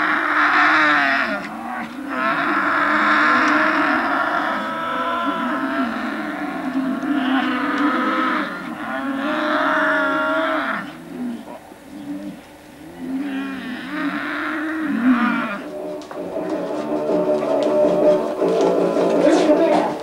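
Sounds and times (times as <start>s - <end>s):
cattle lowing: 0.0s - 20.0s.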